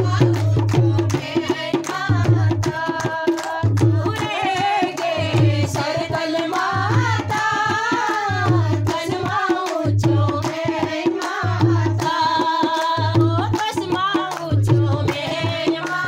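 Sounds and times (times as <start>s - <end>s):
women singing devotional song: 0.0s - 16.0s
hand claps: 0.2s - 16.0s.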